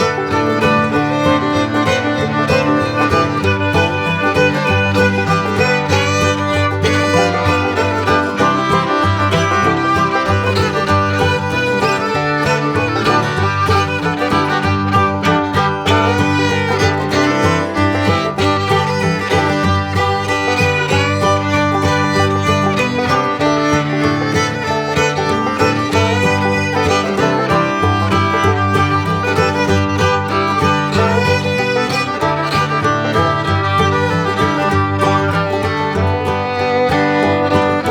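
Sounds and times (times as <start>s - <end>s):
upbeat bluegrass fiddle tune: 0.0s - 37.9s.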